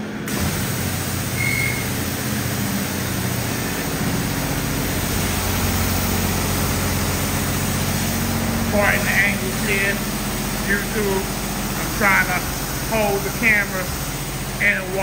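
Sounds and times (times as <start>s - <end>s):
low hum: 0.0s - 15.0s
pressure washer spray hissing: 0.3s - 15.0s.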